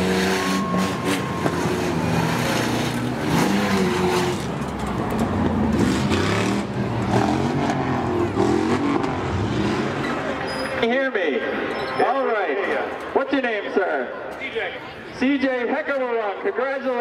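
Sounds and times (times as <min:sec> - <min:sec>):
truck engines racing: 0:00.0 - 0:17.0.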